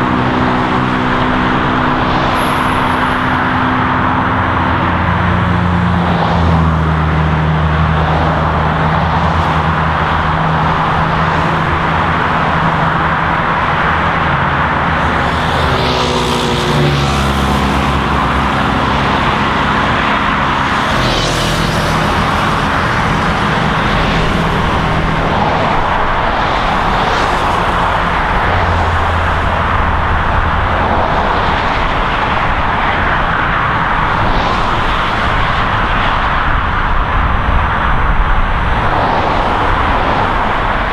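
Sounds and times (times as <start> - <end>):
vehicles passing close by: 0.0 - 40.9
rush of car tyres: 7.8 - 40.9.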